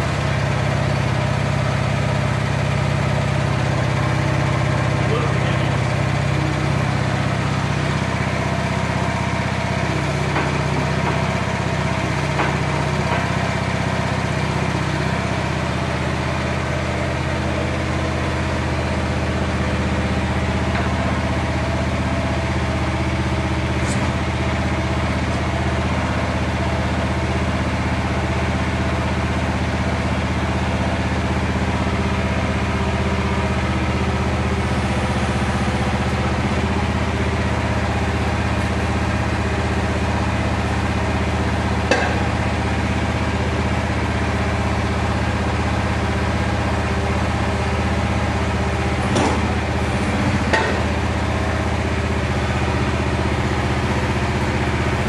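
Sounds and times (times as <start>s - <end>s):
barrow engine idling: 0.0s - 55.0s.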